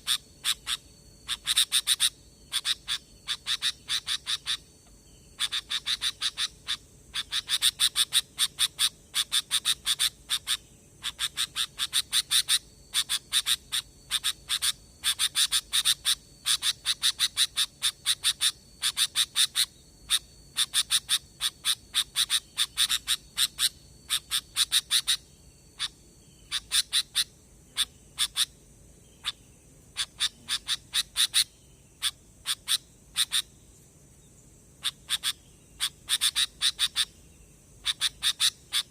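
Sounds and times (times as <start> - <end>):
bird chattering sharp chirps: 0.0 - 4.7, 5.3 - 33.6, 34.8 - 37.2, 37.8 - 38.9.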